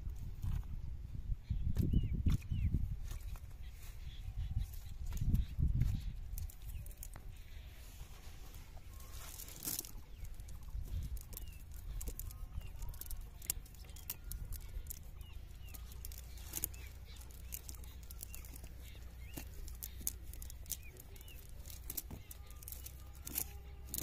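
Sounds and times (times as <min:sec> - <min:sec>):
cast net rustling and clicking: 0:04.6 - 0:24.0.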